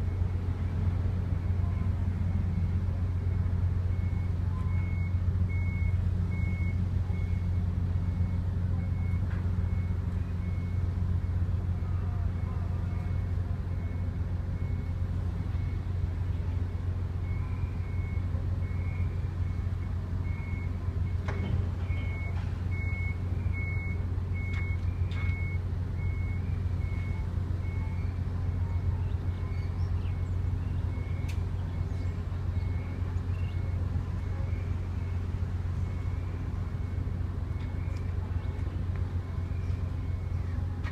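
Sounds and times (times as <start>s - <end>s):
low engine drone: 0.0s - 40.9s
reversing beeper: 0.0s - 40.9s.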